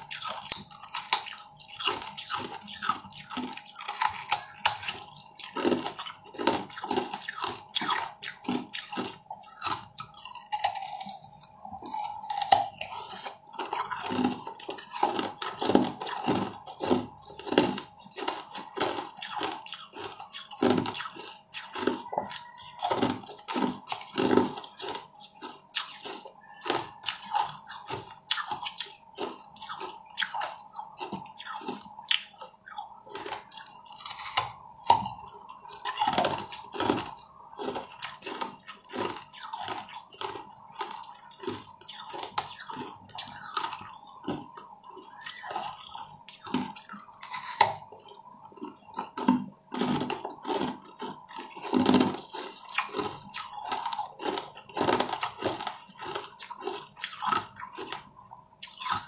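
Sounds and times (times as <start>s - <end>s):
crunchy chewing of frozen fruit: 0.0s - 59.0s.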